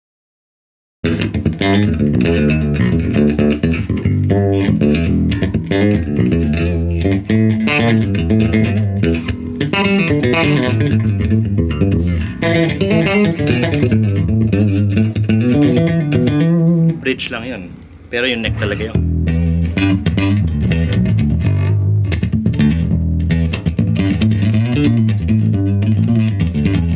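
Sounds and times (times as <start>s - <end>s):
plucked electric bass notes: 1.0s - 26.9s.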